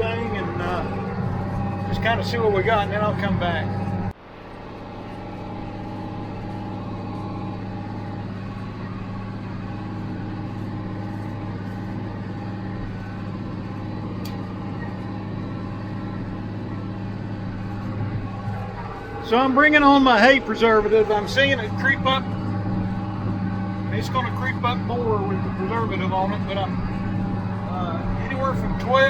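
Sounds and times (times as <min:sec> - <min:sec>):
tractor diesel engine droning: 0:00.0 - 0:29.0.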